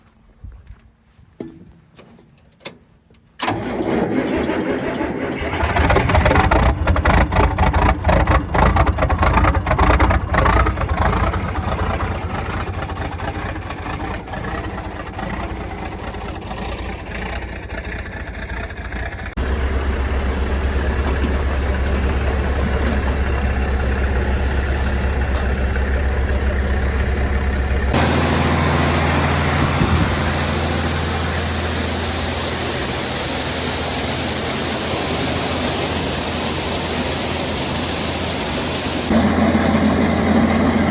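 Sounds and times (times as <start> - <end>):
farm vehicle engine running: 3.4 - 40.9.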